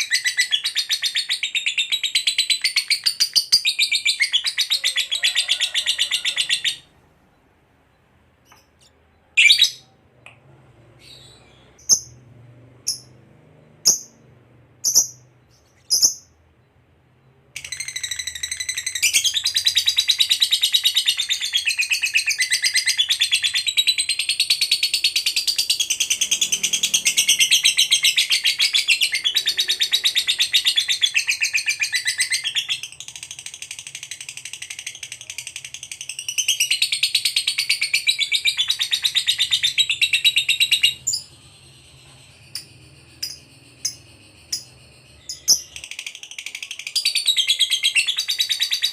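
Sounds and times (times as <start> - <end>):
bird high chattering song: 0.0 - 7.0, 8.3 - 10.2, 10.9 - 16.7, 17.3 - 48.9
lovebird chirps: 0.0 - 48.9.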